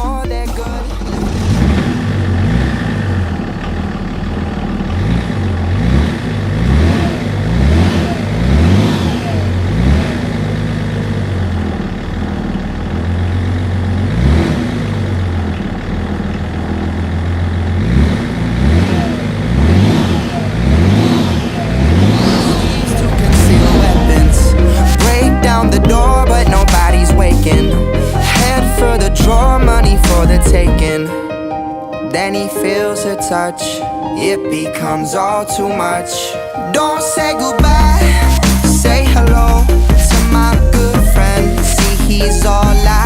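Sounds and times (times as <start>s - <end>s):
motorcycle engine revving: 0.0s - 31.0s, 37.6s - 43.0s.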